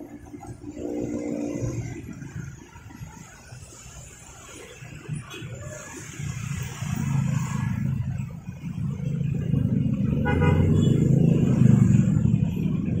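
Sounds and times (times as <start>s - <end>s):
motorcycles and cars driving past: 0.0s - 5.2s, 5.9s - 13.0s.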